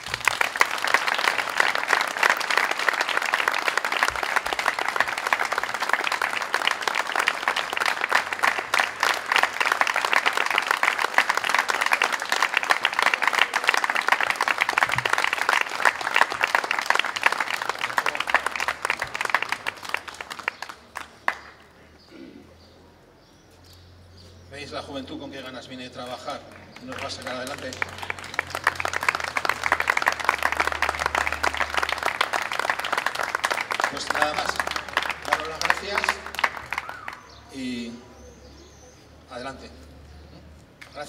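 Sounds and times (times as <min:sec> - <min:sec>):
crowd clapping: 0:00.0 - 0:21.8, 0:26.0 - 0:37.9.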